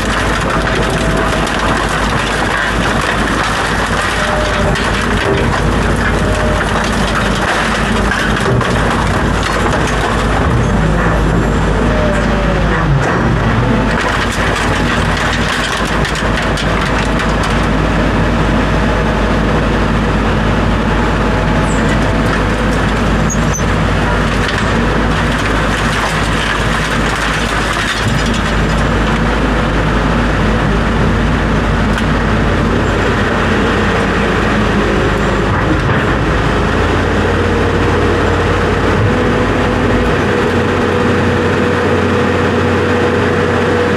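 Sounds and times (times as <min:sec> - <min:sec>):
motor vehicle engine rumbling: 0:00.0 - 0:43.9.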